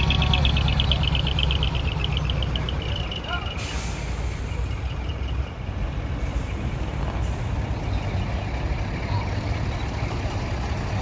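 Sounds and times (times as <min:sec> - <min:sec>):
diesel truck engines running: 0:00.0 - 0:11.0.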